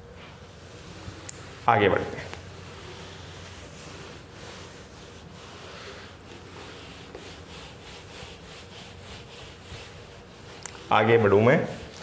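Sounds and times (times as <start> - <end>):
eraser rubbing on whiteboard: 0.7 - 12.0.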